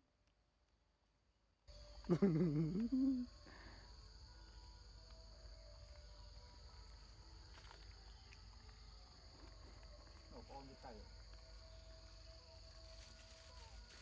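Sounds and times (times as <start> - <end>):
insects droning: 1.7 - 14.0.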